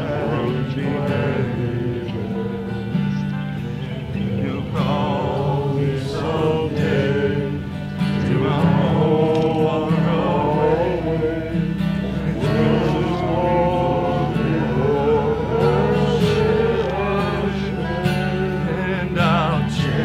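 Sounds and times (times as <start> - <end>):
guitar chords: 0.0 - 20.0
person singing a hymn: 0.0 - 20.0.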